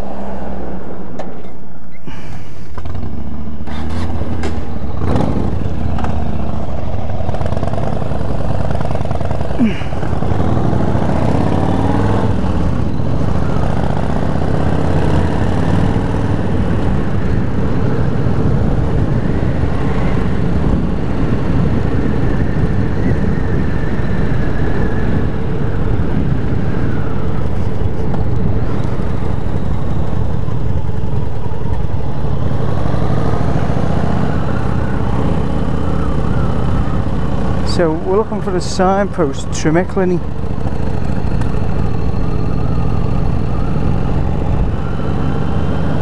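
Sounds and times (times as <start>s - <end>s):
motorcycle engine accelerating: 2.8s - 39.2s, 39.8s - 46.0s
wind rushing over microphone: 4.1s - 46.0s.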